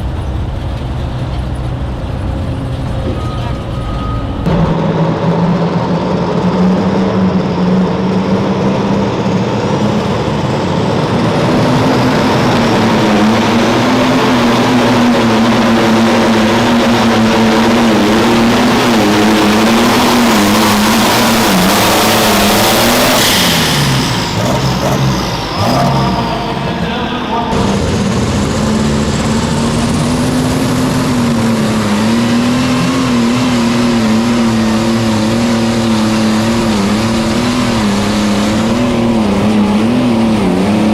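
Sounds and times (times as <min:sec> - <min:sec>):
tractor engine at high revs: 0:00.0 - 0:40.9.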